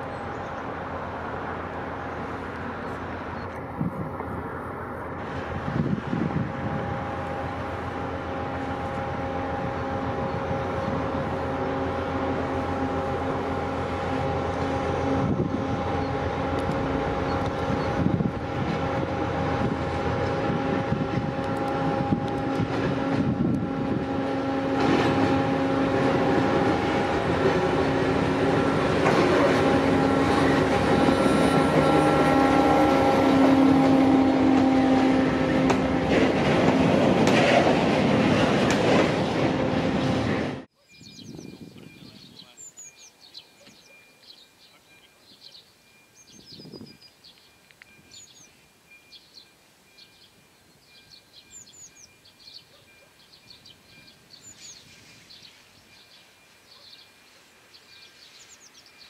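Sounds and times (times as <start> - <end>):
diesel locomotive passing: 0.0 - 59.0.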